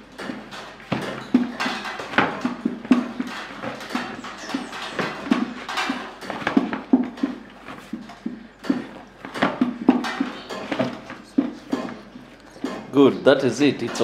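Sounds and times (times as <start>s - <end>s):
hands kneading bread dough: 0.0s - 13.6s.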